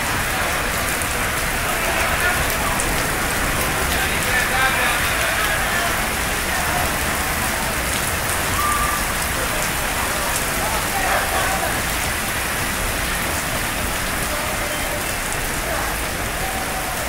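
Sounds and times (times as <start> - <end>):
torrential rain on street: 0.0 - 17.0.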